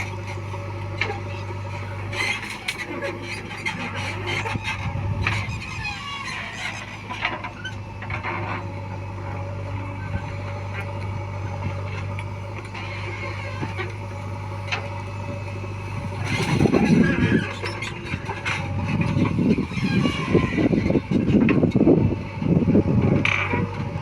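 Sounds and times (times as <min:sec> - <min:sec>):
diesel engine humming: 0:00.0 - 0:24.0.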